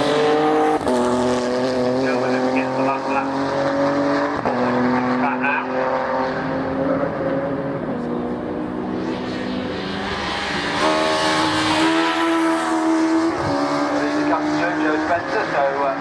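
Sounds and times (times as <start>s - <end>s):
racing car engines running hard: 0.0s - 16.0s.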